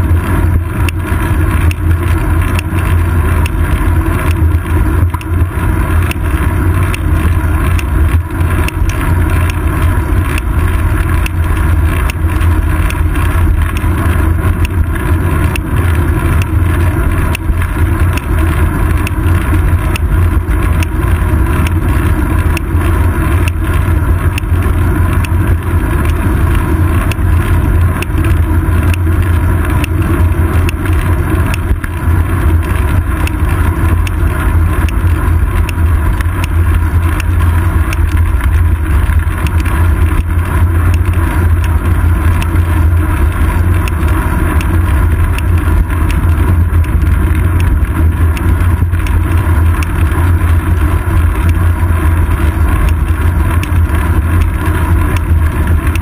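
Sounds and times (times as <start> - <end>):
bicycle knocks and rattles: 0.0 - 56.0
wind and road rumble: 0.0 - 56.0.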